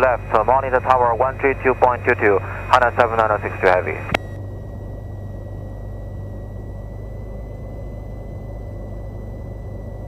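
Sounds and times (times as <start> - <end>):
aircraft engine idling: 0.0 - 10.0
thin high whine: 0.0 - 10.0.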